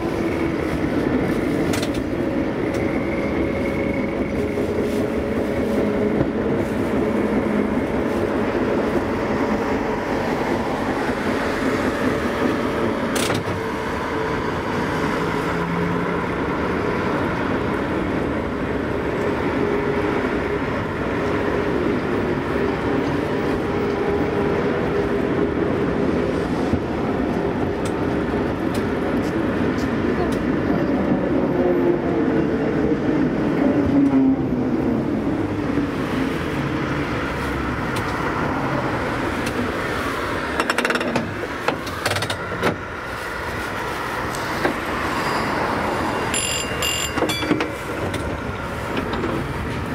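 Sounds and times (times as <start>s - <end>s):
tram running on rails: 0.0s - 49.9s.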